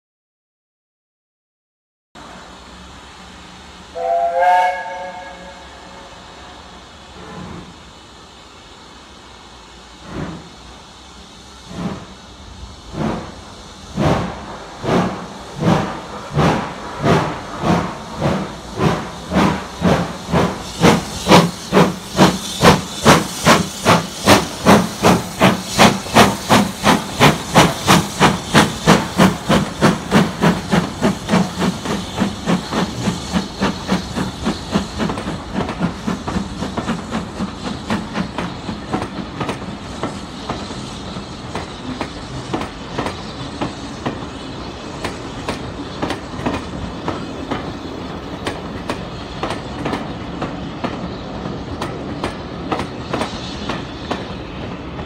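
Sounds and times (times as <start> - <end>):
steam locomotive exhaust beats: 2.2 - 55.0.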